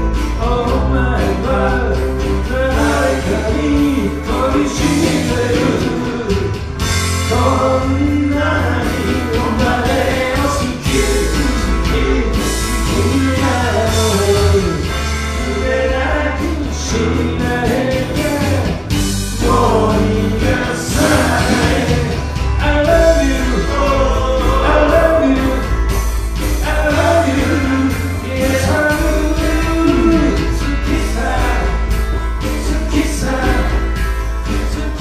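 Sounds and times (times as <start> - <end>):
bass line: 0.0 - 35.0
lead singer singing: 0.0 - 35.0
live rock band playing: 0.0 - 35.0.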